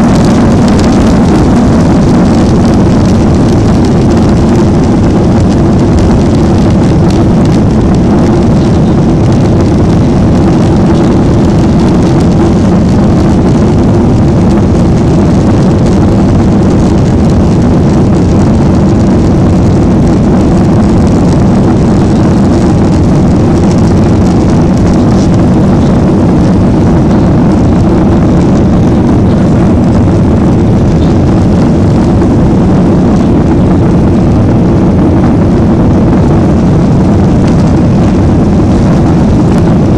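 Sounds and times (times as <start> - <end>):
jet engines under climb power: 0.0 - 39.9.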